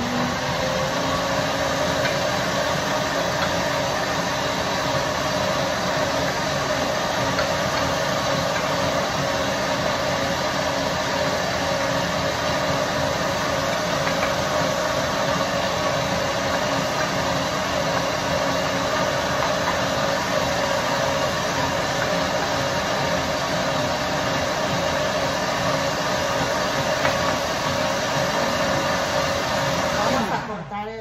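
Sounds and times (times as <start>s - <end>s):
blender motor whirring: 0.0s - 30.7s.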